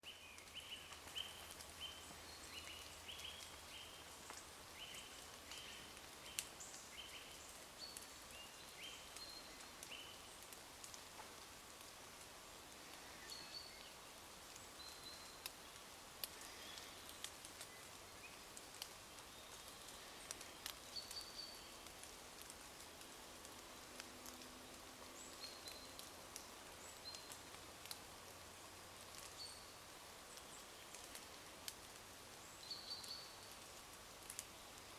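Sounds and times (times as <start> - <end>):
light rain in woodland: 0.0 - 34.9
raindrops ticking: 0.1 - 34.9.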